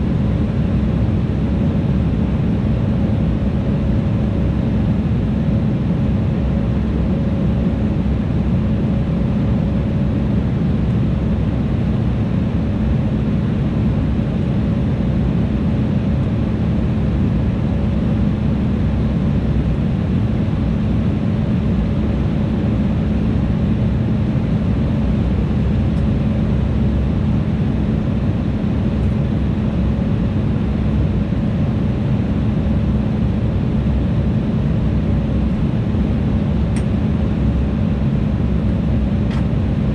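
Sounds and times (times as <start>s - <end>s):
jet cabin engine noise: 0.0s - 39.9s.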